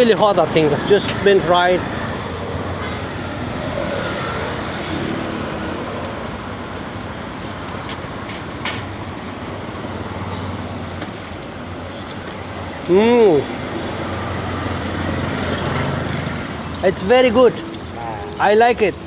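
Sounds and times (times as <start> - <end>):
street traffic passing: 0.0 - 19.0.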